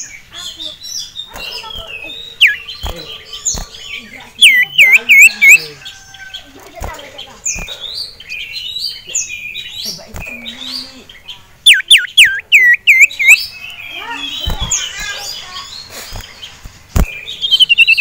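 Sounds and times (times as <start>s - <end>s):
bird chattering notes: 0.0s - 18.0s.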